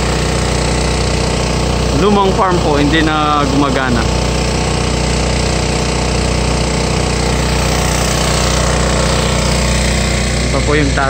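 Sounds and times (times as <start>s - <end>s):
farm vehicle engine running: 0.0s - 11.0s.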